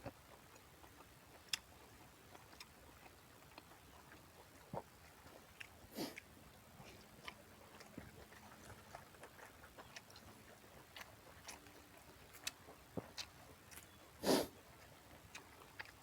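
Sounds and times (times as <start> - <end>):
person chewing and smacking: 0.0 - 16.0.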